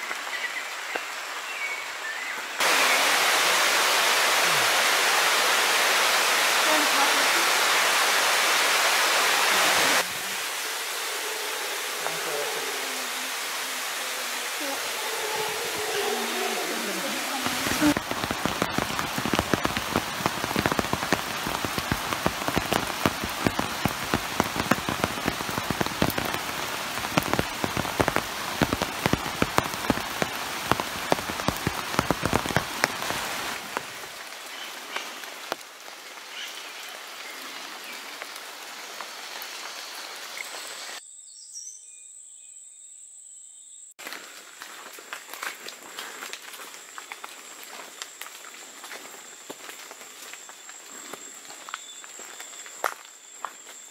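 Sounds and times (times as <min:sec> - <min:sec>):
rain pattering on foliage: 0:00.0 - 0:41.0, 0:44.0 - 0:53.9.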